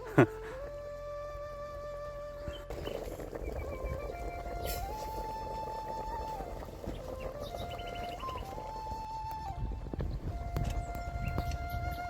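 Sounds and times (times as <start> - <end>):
slow flute melody: 0.0 - 12.0.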